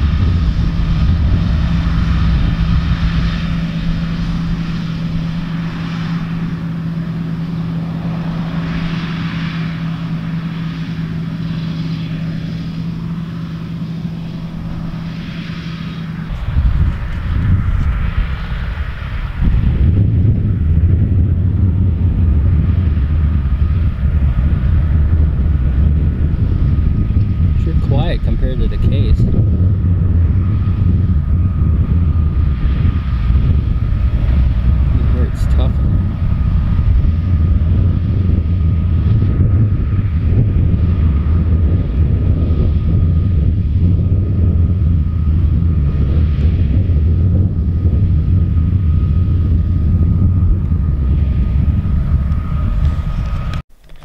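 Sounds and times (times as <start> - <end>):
combine harvester diesel rumble: 0.0 - 54.0
faint steady whine: 0.0 - 54.0.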